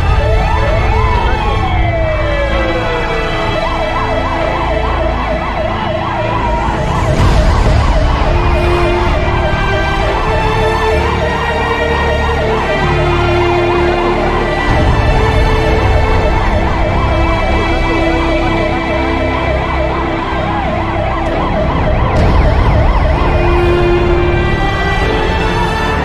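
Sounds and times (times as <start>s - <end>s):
emergency siren yelping: 0.0s - 26.0s
dense low rumble: 5.1s - 26.0s.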